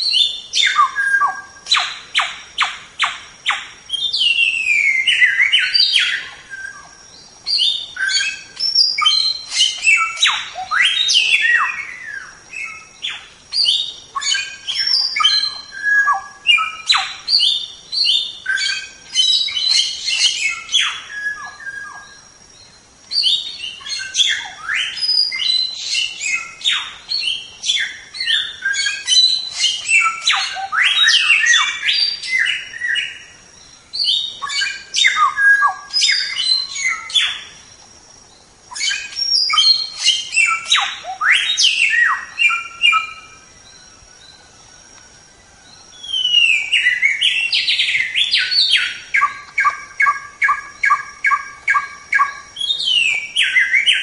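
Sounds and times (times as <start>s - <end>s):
songbird chirping and whistling: 0.0s - 37.6s, 38.3s - 54.0s.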